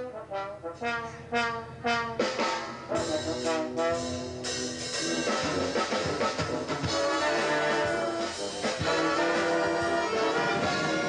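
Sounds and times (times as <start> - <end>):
brass band playing chords: 0.0 - 11.0
drums: 0.0 - 11.0.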